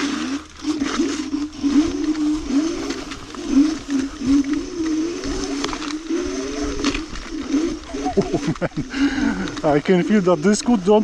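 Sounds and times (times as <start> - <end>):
electric scooter motor whining: 0.0 - 11.0.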